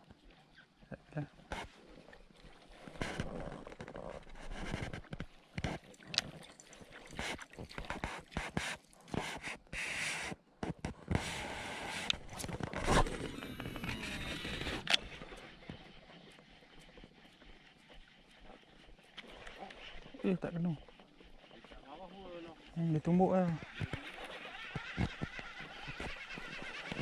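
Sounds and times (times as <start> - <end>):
fishing gear knocking and scraping: 2.8 - 27.0.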